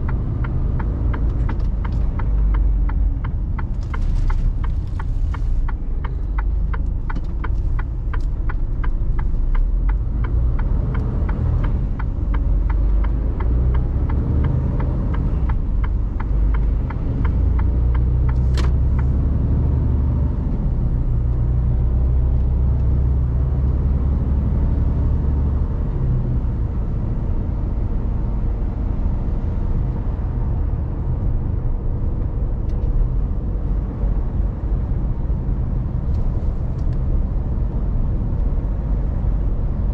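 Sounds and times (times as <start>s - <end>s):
turn signal ticking: 0.0s - 28.0s, 28.7s - 39.9s
diesel truck engine rumbling: 0.0s - 39.9s.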